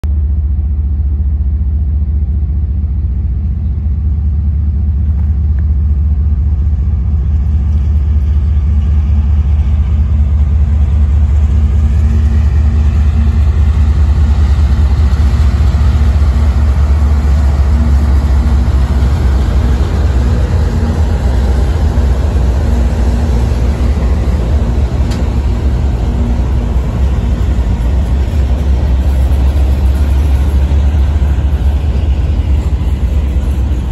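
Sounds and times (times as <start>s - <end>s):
diesel locomotive rumble: 0.0s - 33.9s
train wheels rolling on rail: 0.2s - 33.9s.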